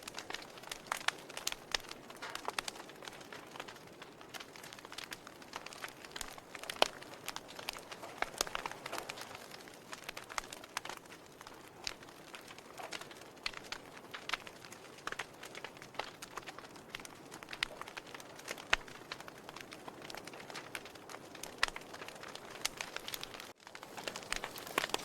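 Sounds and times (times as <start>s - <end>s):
wood fire pops and snaps: 0.0s - 25.0s.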